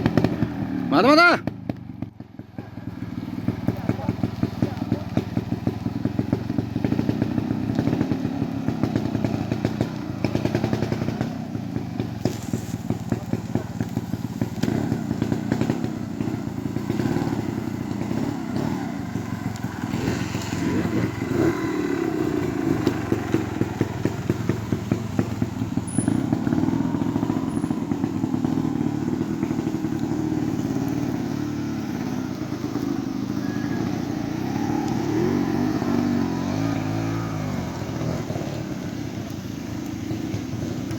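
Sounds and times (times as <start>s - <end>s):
motorcycle engine throttle blips: 0.0s - 40.9s.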